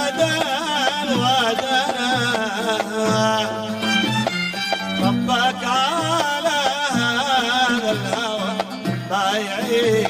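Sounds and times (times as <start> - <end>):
accompanying instruments: 0.0 - 10.0
wavering folk melody: 0.0 - 10.0.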